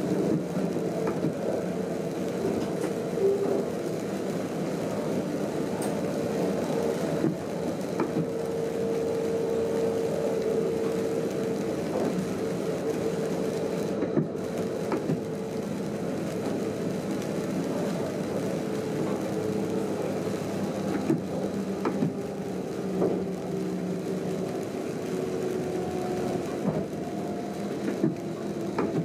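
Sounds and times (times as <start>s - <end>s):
train cab running noise: 0.0s - 29.0s.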